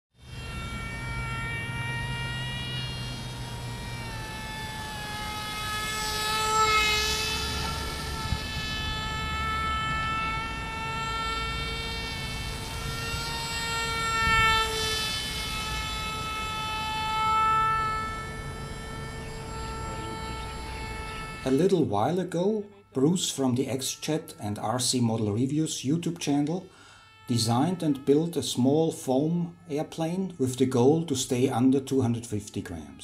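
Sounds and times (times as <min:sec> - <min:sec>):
model airplane motor buzzing: 0:00.1 - 0:32.8.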